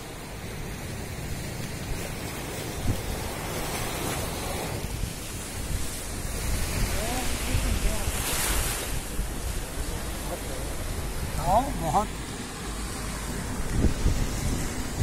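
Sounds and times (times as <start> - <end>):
sea surf breaking on shore: 0.0 - 15.0
wind rumbling on microphone: 0.0 - 15.0.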